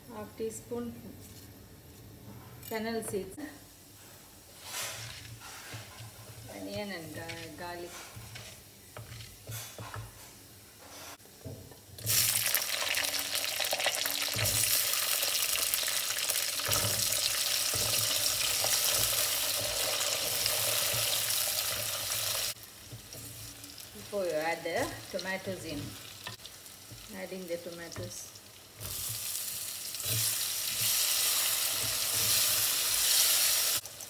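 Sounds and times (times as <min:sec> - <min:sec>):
frying sizzle in oil: 0:03.7 - 0:34.0.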